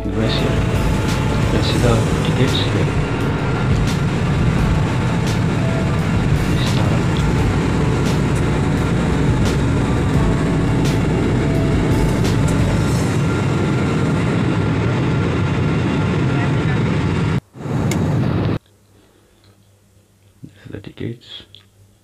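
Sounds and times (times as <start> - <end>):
airliner cabin rumble: 0.0 - 18.6.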